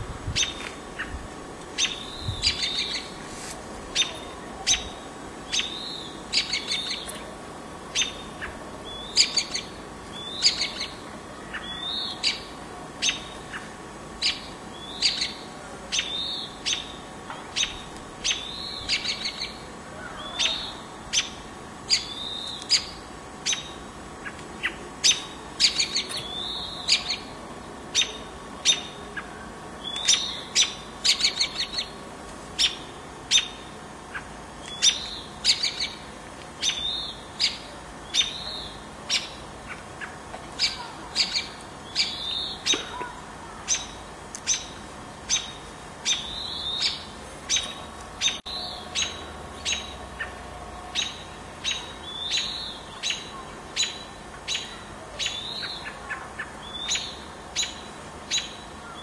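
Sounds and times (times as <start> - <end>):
background hiss: 0.0 - 59.0
small birds chirping: 0.0 - 59.0.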